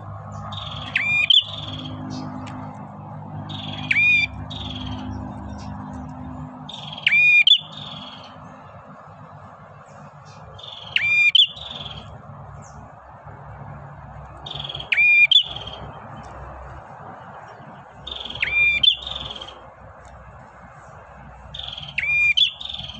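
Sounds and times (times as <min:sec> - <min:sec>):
bird singing high-pitched bursts: 0:00.0 - 0:09.2, 0:09.8 - 0:13.0, 0:14.2 - 0:19.8, 0:20.8 - 0:22.9.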